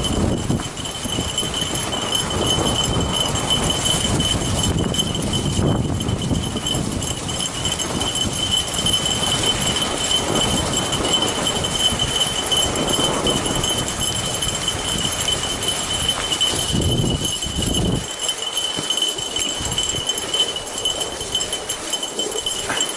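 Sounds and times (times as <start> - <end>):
clattering and jingling: 0.0 - 22.9.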